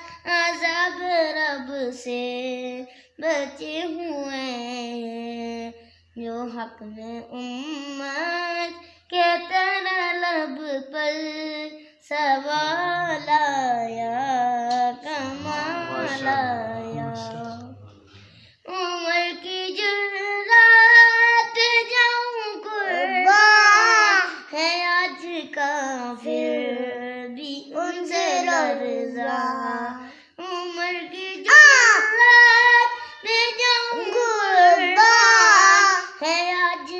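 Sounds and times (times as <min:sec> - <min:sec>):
boy singing unaccompanied: 0:00.0 - 0:17.9, 0:18.7 - 0:36.9.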